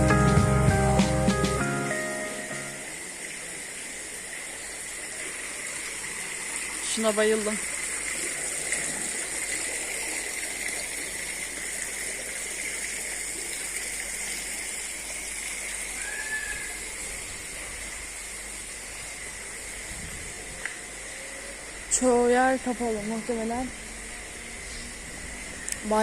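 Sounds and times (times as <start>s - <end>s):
rushing hissing outdoor noise: 0.0s - 26.0s.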